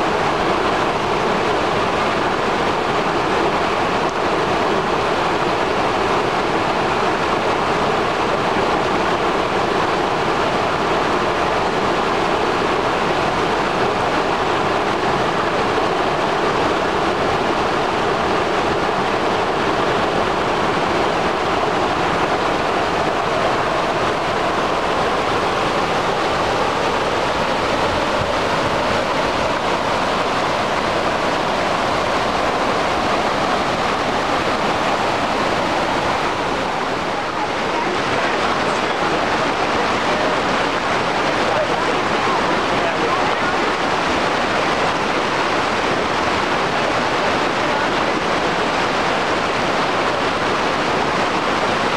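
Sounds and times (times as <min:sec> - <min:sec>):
creek rushing over rocks: 0:00.0 - 0:51.9.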